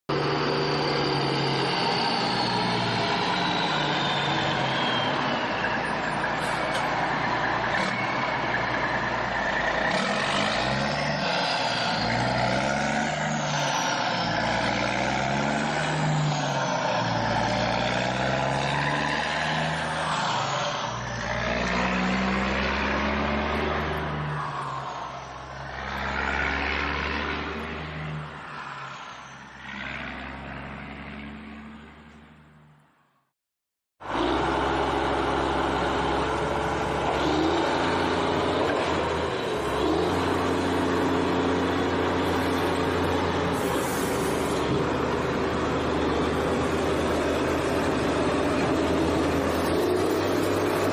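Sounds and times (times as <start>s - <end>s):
engine revving: 0.1s - 32.5s, 34.0s - 50.9s.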